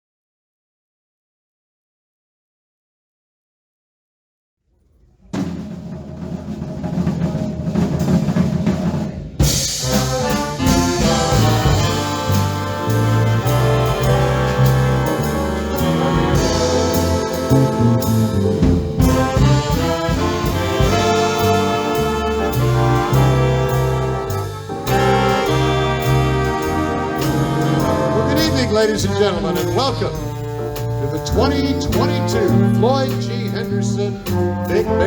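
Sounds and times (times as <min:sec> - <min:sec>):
swing big band playing: 0:05.4 - 0:35.0.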